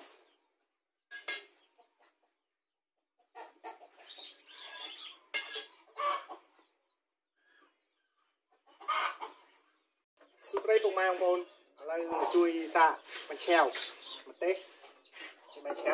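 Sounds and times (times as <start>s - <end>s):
chickens clucking: 1.2s - 2.5s, 3.2s - 15.9s.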